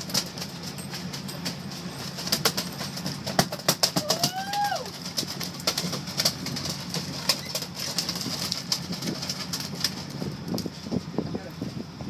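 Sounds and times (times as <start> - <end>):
boat engines running: 0.0 - 12.0
wind and water: 1.9 - 12.0.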